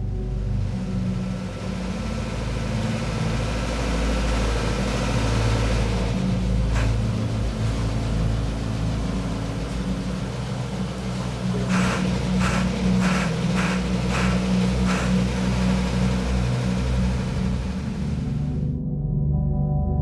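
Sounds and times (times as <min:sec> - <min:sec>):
low mechanical drone: 0:00.0 - 0:20.0
short hissing pulses: 0:00.2 - 0:18.7.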